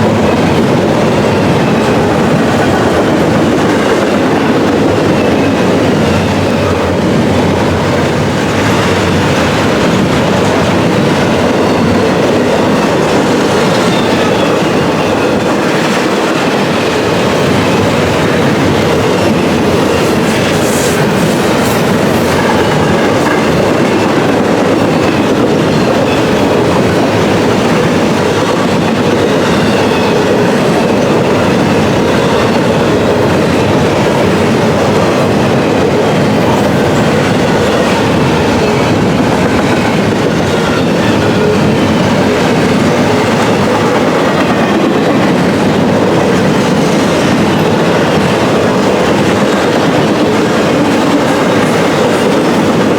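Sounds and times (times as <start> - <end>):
freight train wheels rumbling: 0.0 - 52.9
wheels clacking over rail joints: 0.0 - 52.9.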